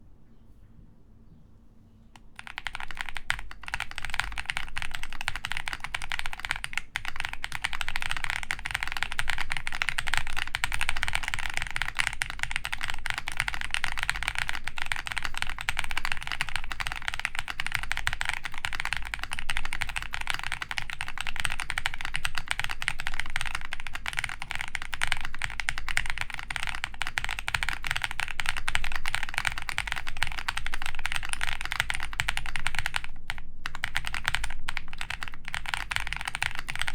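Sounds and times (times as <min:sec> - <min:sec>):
typing on mechanical keyboard: 0:02.2 - 0:36.9.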